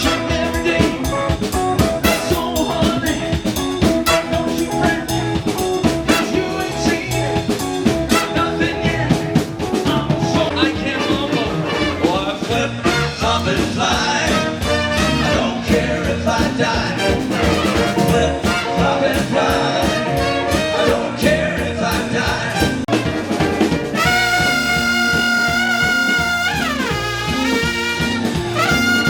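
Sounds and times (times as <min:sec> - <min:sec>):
horn band playing upbeat tune: 0:00.0 - 0:29.0
steady drum beat: 0:00.0 - 0:29.0.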